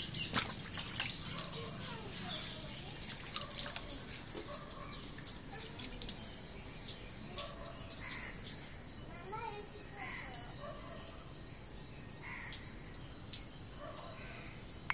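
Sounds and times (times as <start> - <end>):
water drops ticking on glass: 0.2 - 14.0, 14.6 - 14.9.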